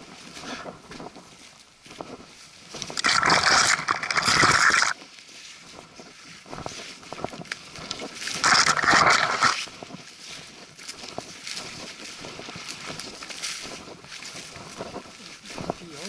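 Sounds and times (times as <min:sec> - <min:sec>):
branches rasping against camera: 0:00.0 - 0:16.0
twig crackles: 0:00.0 - 0:16.0.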